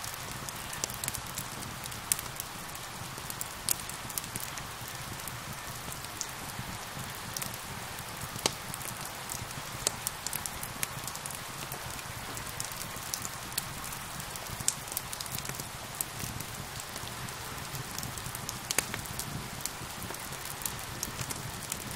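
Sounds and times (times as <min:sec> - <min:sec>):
steady rain hiss: 0:00.0 - 0:21.9
wood fire crackling: 0:00.0 - 0:21.9.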